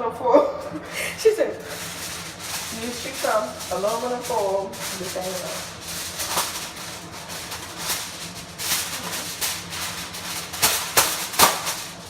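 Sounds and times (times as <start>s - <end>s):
aluminum foil crinkling: 0.4s - 12.0s.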